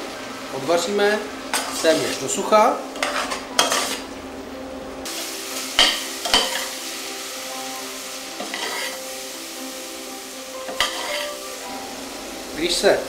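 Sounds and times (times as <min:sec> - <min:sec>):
onions sizzling in a pot: 0:00.0 - 0:04.2, 0:05.0 - 0:13.0.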